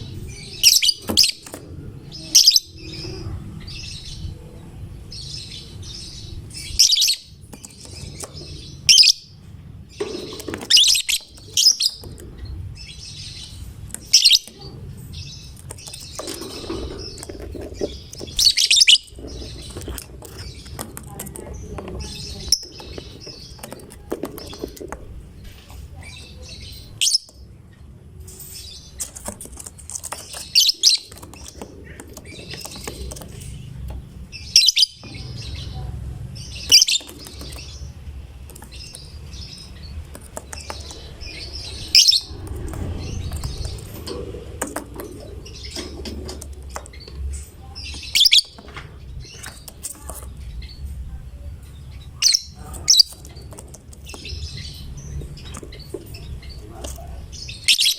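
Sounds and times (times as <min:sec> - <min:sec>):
bird chattering and twittering: 0:00.0 - 0:57.9.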